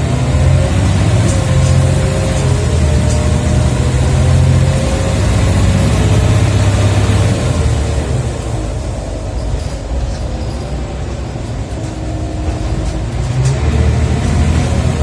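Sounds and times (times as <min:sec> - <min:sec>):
bus diesel engine droning: 0:00.0 - 0:15.0
gearbox whine: 0:00.0 - 0:15.0.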